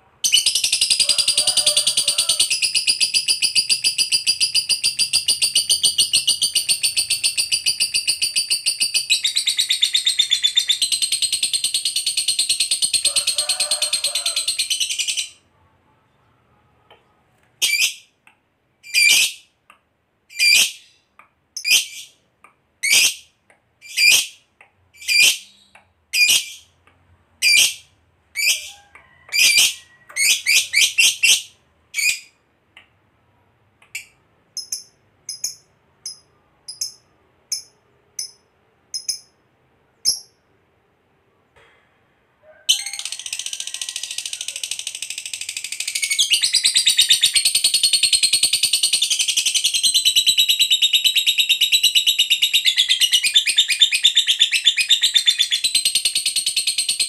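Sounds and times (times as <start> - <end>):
lovebird chirping and trilling: 0.2 - 13.1, 13.9 - 15.4, 17.6 - 18.1, 18.8 - 19.5, 20.3 - 22.2, 22.8 - 24.4, 25.0 - 26.8, 27.4 - 32.4, 33.9 - 39.4, 40.0 - 40.4, 42.7 - 57.0.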